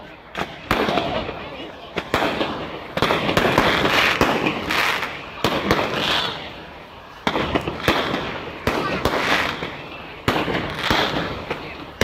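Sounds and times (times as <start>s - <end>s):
fireworks bangs: 0.0s - 12.0s
fireworks fizzing: 0.0s - 12.0s.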